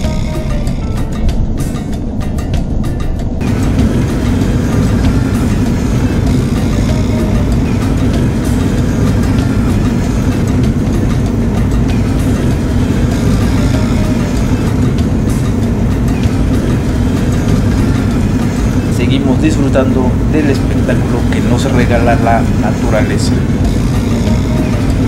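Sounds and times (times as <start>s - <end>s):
car engine and tyres rumble: 0.0s - 25.0s.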